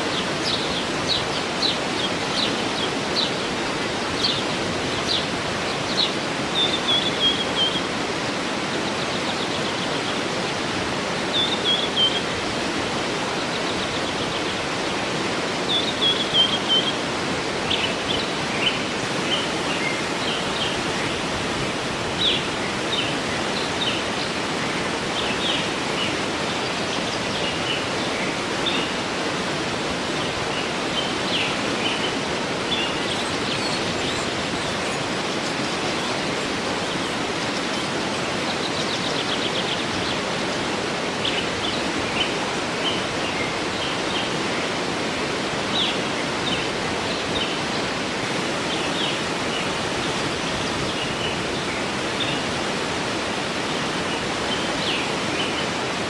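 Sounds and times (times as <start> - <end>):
birds chirping: 0.0 - 45.0
waterfall rushing: 0.0 - 56.0.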